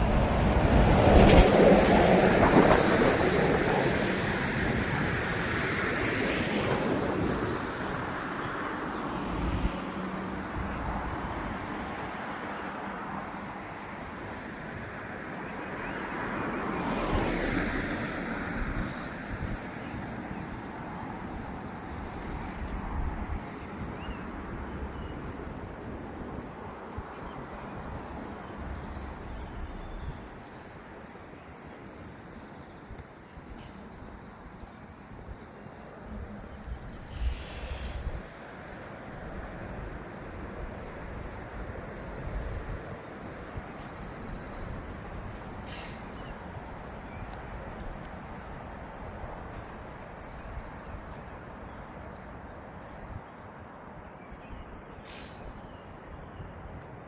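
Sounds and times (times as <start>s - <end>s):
vehicle passing: 0.0s - 32.7s, 33.3s - 50.0s
wind buffeting microphone: 0.0s - 57.0s.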